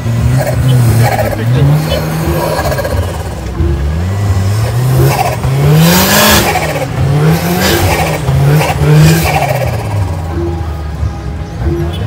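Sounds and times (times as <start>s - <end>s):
off-road vehicle engine revving: 0.0s - 10.6s.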